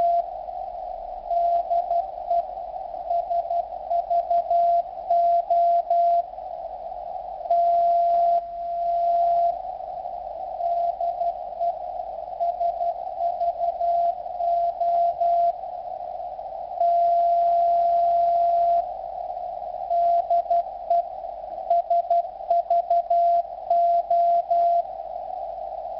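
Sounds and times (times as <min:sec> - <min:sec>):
receiver static: 0:00.0 - 0:25.9.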